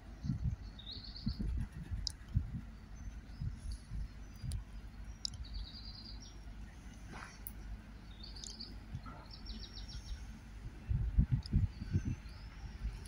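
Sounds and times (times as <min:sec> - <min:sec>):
low steady background noise: 0:00.0 - 0:13.0
small bird chirping: 0:00.1 - 0:13.0.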